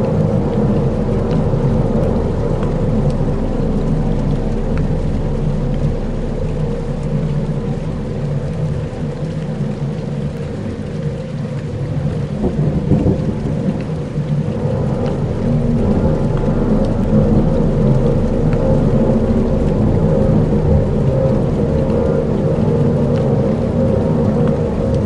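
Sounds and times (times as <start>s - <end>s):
low rumbling drone: 0.0s - 25.0s.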